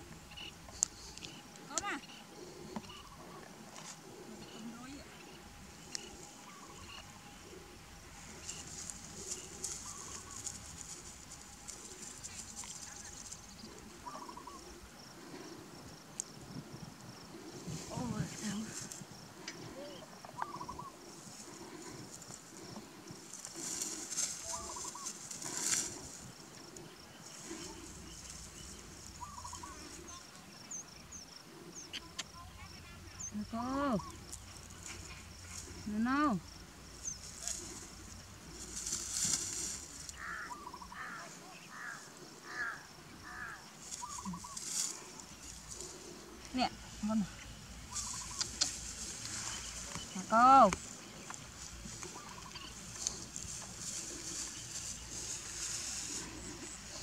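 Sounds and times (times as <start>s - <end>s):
bird calling: 0.0s - 15.7s, 19.4s - 32.3s, 37.0s - 57.0s
rustling in dry grass: 0.0s - 31.9s, 32.6s - 57.0s.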